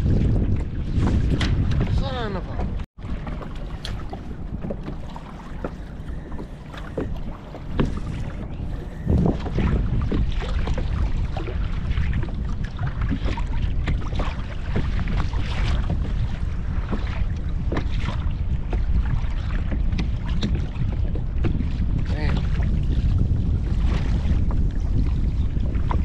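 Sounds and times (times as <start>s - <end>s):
waves slapping against boat hull: 0.0s - 26.0s
wind buffeting microphone: 0.0s - 26.0s.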